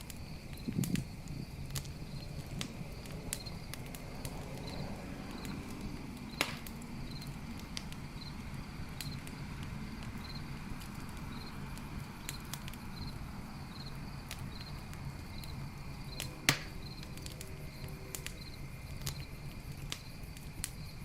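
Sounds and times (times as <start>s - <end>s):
burning wood popping: 0.0s - 21.0s
campfire crackling: 0.0s - 21.0s
crickets chirping: 0.0s - 21.0s
low rumble of flames: 0.0s - 21.0s.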